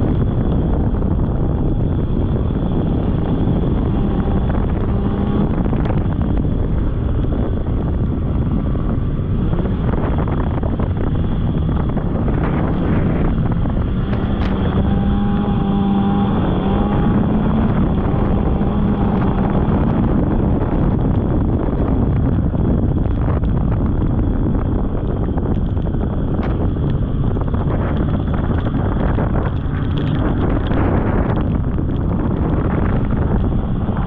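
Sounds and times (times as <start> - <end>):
snowmobile engine running: 0.0 - 34.0
wind rushing over microphone: 0.0 - 34.0.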